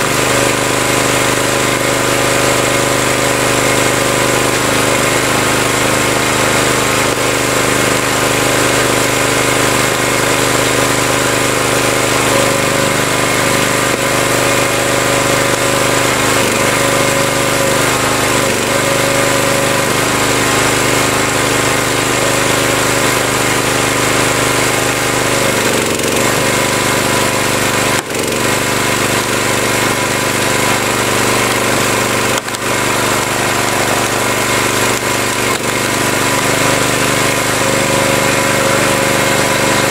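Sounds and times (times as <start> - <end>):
wood splitter gas engine running: 0.0 - 39.9.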